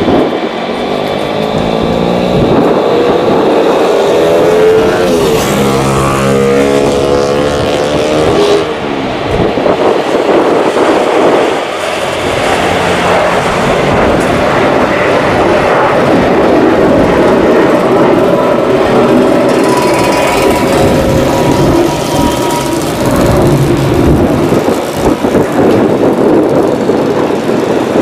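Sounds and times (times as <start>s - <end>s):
jet engines at take-off thrust: 0.0s - 28.0s.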